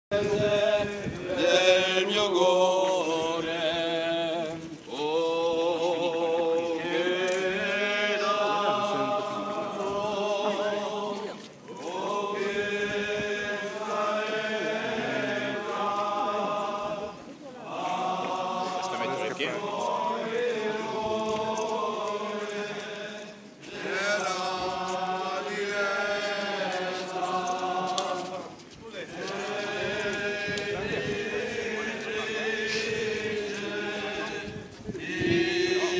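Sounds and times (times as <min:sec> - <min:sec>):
men chanting a hymn: 0:00.1 - 0:35.9.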